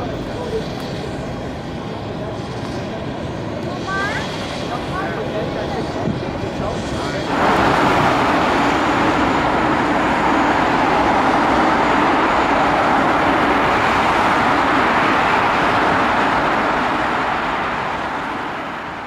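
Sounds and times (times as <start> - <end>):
rushing road traffic: 0.0 - 19.0.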